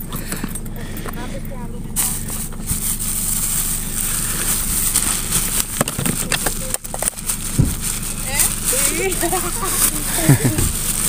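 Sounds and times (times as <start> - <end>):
engine idling: 0.0 - 11.0
bags rustling: 1.9 - 11.0.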